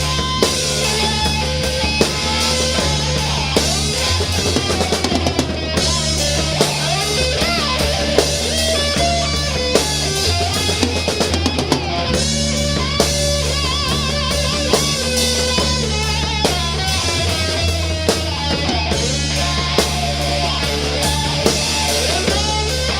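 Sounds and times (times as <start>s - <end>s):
drum kit: 0.0s - 22.9s
electric guitar: 0.0s - 22.9s
steady bass line: 0.0s - 22.9s.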